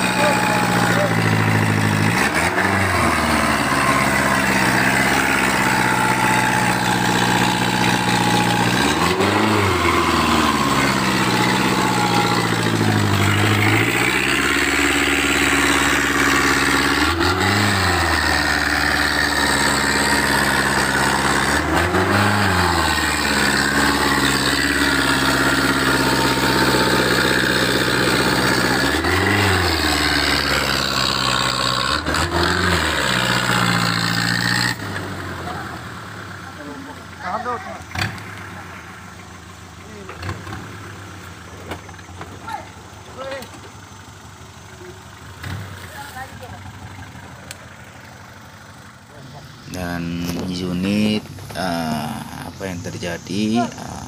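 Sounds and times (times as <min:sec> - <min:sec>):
pickup engine revving: 0:00.0 - 0:54.0.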